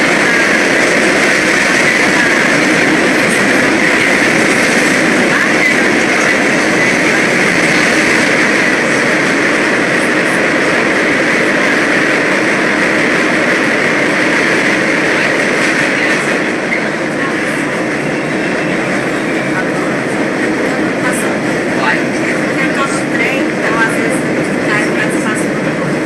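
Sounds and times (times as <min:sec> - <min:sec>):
subway train wheel and rail noise: 0:00.0 - 0:26.0.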